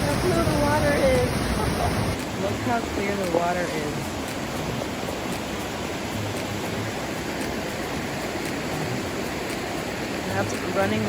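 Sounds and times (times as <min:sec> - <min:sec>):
stream of running water: 0:00.0 - 0:11.0.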